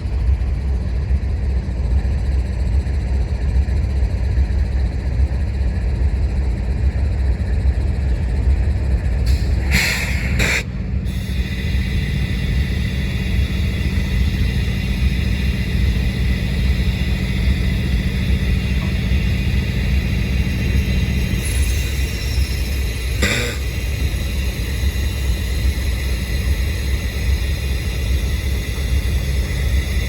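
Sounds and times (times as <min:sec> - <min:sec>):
freight train rumbling past: 0:00.0 - 0:30.0.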